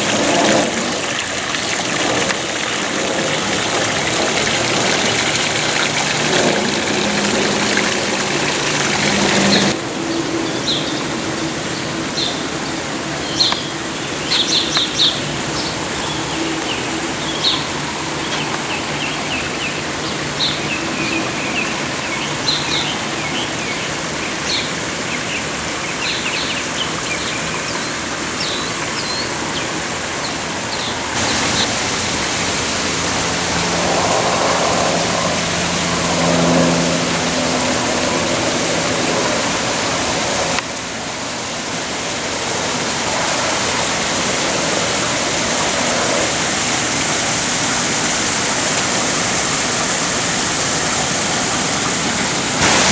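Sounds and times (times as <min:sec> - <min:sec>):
stream water running: 0:00.0 - 0:52.9.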